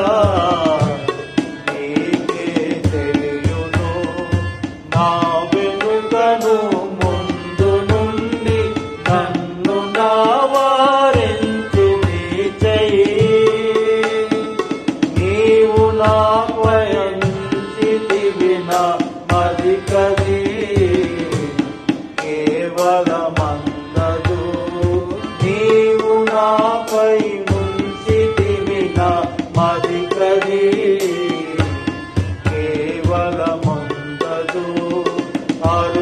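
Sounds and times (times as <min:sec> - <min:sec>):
hand drum rhythm: 0:00.0 - 0:36.0
man singing a hymn: 0:00.0 - 0:36.0.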